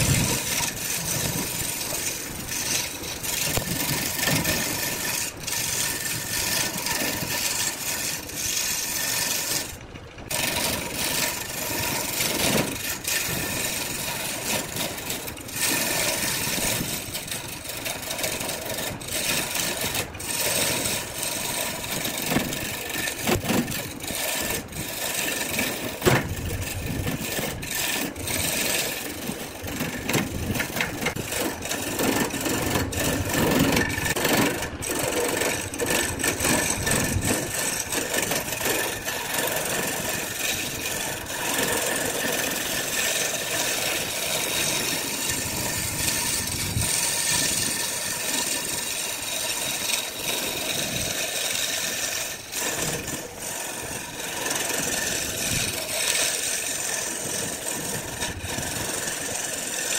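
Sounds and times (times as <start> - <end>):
turning tool scraping wood: 0.0 - 59.9
wood lathe running: 0.0 - 59.9.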